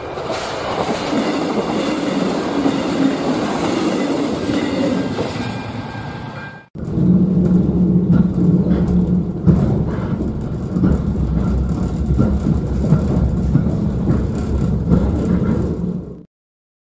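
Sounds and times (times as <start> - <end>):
train wheels rumbling on rails: 0.0 - 16.3
knocks and clatter from track: 0.2 - 16.3.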